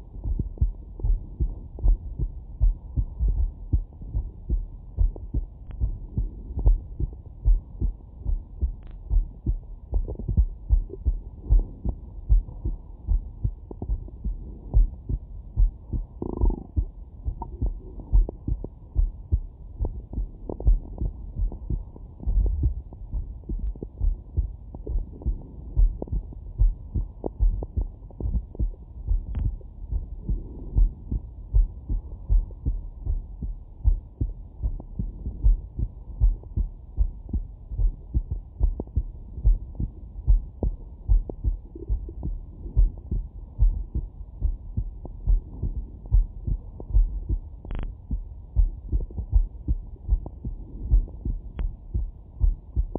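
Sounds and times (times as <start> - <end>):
muffled heartbeat through stethoscope: 0.0 - 52.9.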